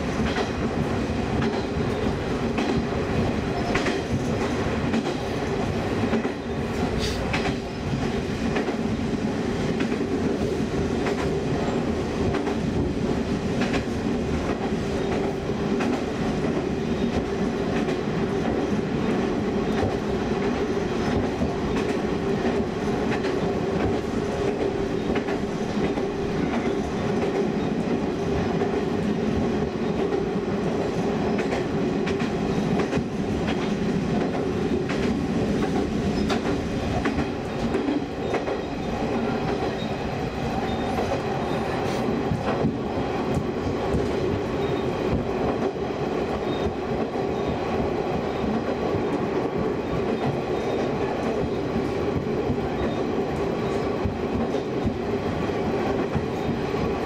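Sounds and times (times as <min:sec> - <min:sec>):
railcar engine drone: 0:00.0 - 0:57.0.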